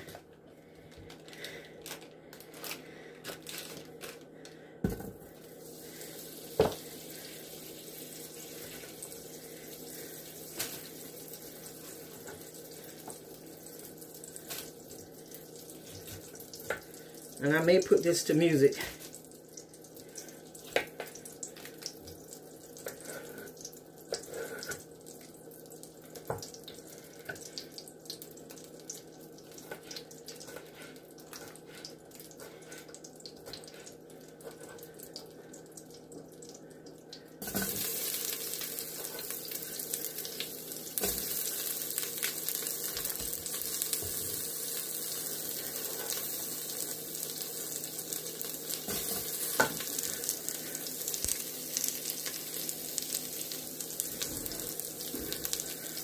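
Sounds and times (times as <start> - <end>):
food sizzling: 4.8 - 56.0.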